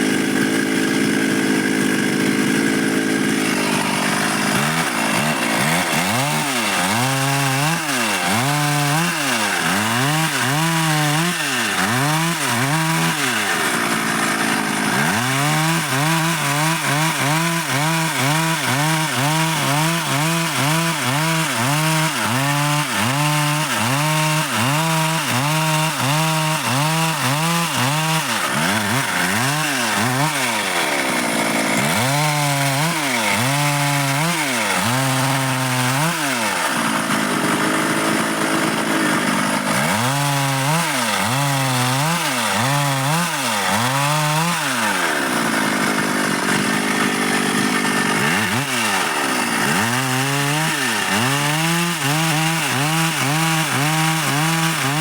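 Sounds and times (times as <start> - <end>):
chainsaw cutting dry wood: 0.0 - 55.0.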